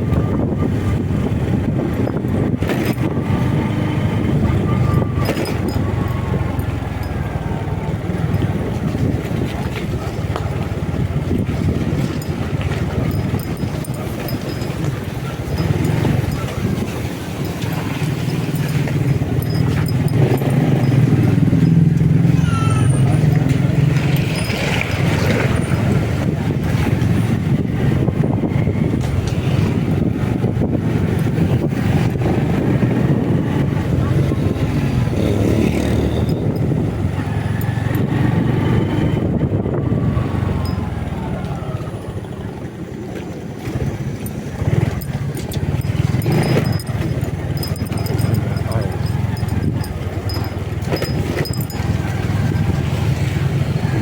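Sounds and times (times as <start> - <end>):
motorcycle engine running: 0.0 - 54.0
road and traffic noise: 0.0 - 54.0.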